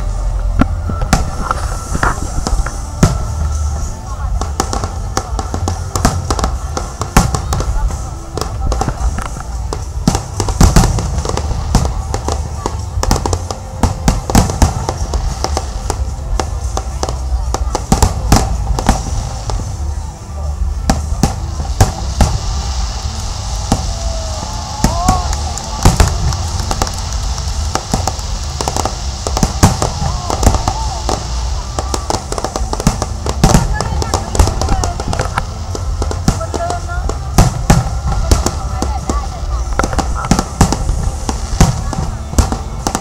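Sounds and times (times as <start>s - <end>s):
fireworks bangs and crackles: 0.0s - 43.0s
steady low rumble: 0.0s - 43.0s
fireworks booms: 0.1s - 43.0s.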